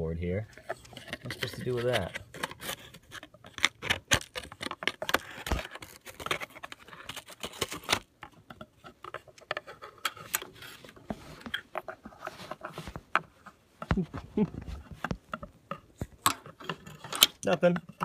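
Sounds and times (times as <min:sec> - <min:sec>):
scratching tapping and rustling: 0:00.5 - 0:18.0.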